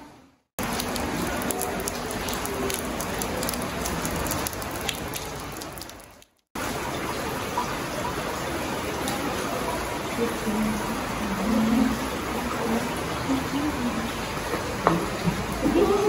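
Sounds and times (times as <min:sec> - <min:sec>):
close water drips: 0:00.6 - 0:16.0
steady rain: 0:00.6 - 0:16.0.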